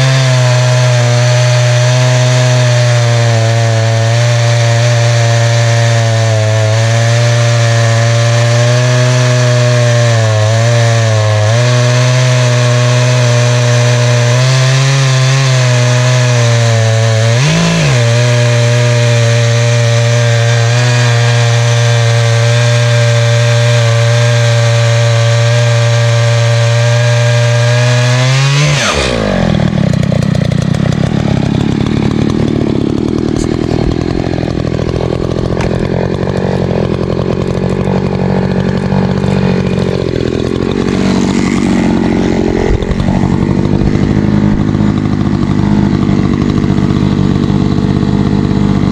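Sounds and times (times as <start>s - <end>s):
chainsaw ripping through log: 0.0s - 48.9s.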